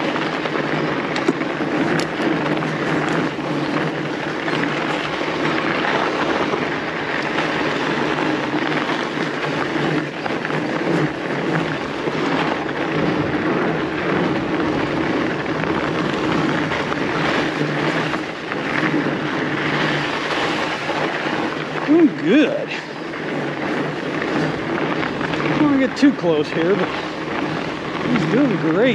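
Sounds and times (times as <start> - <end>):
tyres rolling over snow: 0.0 - 28.9.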